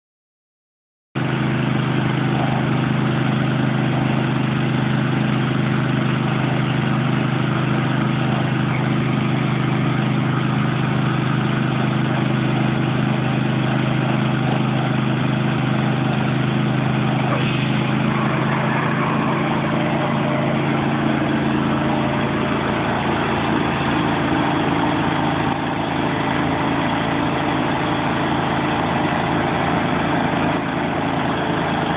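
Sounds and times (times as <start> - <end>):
machine engine running: 1.2 - 31.9.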